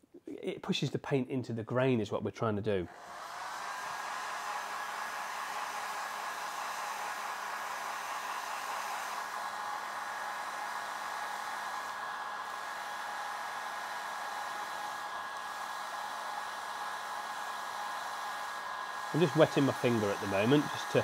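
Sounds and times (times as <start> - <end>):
hot-air dryer blowing: 2.9 - 21.0.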